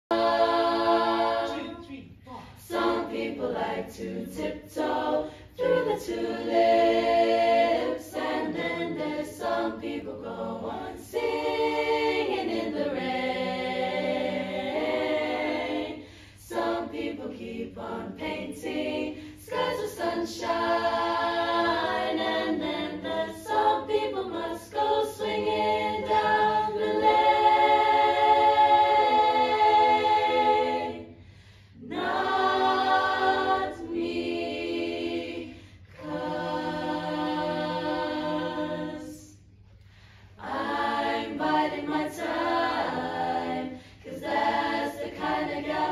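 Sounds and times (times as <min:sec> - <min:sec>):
girls chorus singing a cappella: 0:00.0 - 0:45.9.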